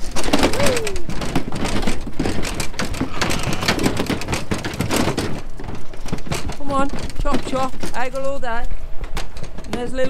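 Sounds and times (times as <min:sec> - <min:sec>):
hooves clattering on trailer floor: 0:00.0 - 0:10.0.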